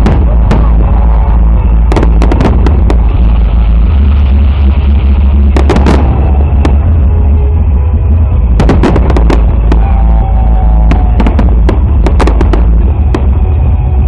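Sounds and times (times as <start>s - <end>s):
low rumble of booms: 0.0s - 14.0s.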